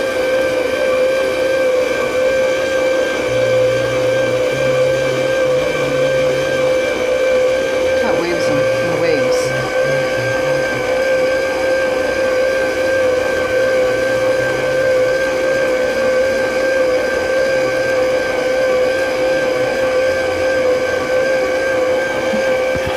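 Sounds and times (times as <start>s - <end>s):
electric kitchen mixer whine: 0.0s - 22.9s.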